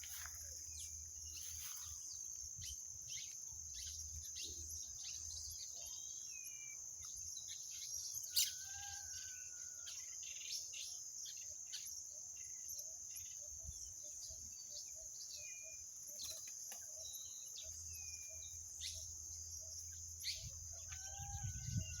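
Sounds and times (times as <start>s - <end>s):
high-pitched insect trill: 0.0s - 22.0s.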